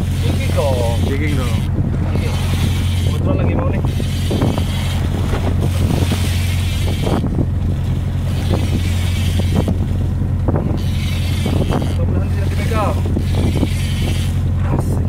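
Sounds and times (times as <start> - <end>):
boat engine droning: 0.0 - 15.0
water sloshing against hull: 0.0 - 15.0
wind buffeting microphone: 0.0 - 15.0.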